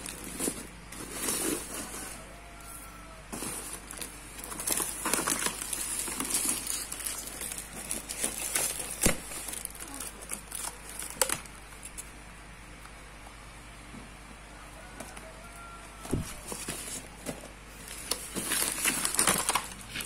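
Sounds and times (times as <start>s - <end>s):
cardboard packaging rustling: 0.0s - 12.1s, 15.6s - 20.0s.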